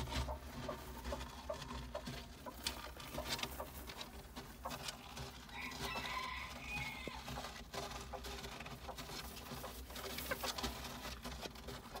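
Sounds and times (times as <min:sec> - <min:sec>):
chicken feet scratching litter: 0:00.0 - 0:12.0.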